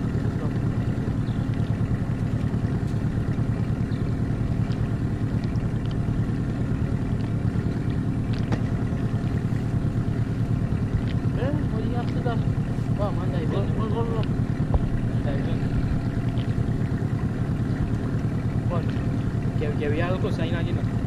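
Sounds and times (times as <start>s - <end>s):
outboard motor running: 0.0s - 21.0s
water noise: 0.0s - 21.0s
wind: 0.0s - 21.0s.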